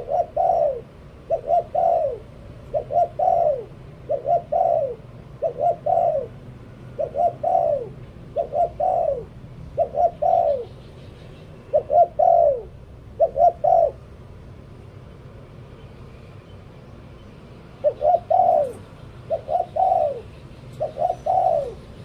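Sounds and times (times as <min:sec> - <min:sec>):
dove cooing: 0:00.0 - 0:14.3, 0:17.8 - 0:22.0.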